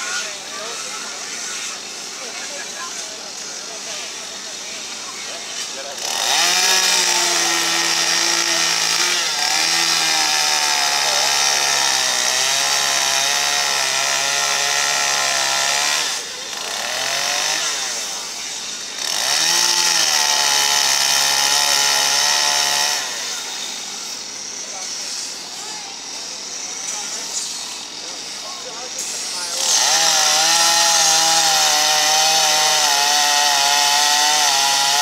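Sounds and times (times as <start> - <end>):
chainsaw carving wood: 0.0 - 35.0.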